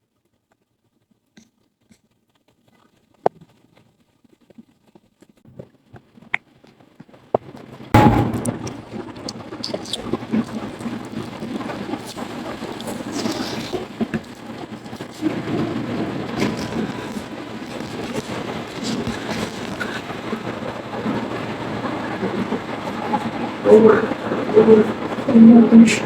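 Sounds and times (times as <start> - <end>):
faint clicks and rustles: 0.0 - 7.7, 8.8 - 26.0.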